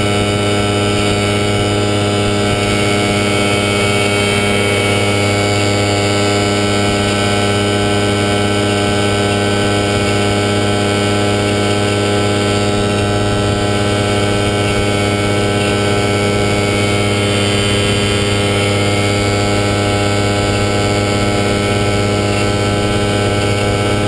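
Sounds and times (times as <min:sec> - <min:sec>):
ultralight engine droning: 0:00.0 - 0:24.0.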